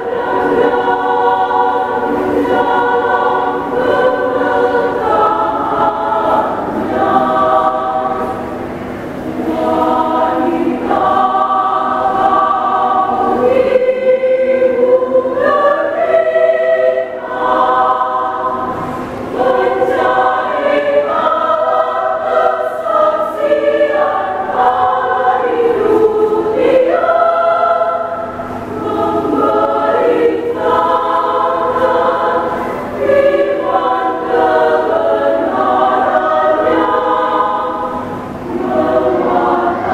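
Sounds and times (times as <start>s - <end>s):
women's choir singing a hymn: 0.0s - 39.9s.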